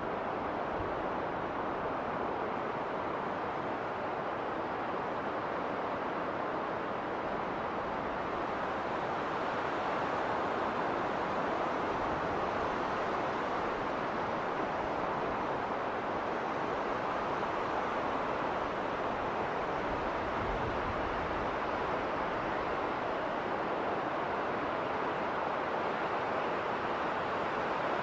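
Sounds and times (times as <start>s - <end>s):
wind blowing in snowstorm: 0.0s - 28.0s.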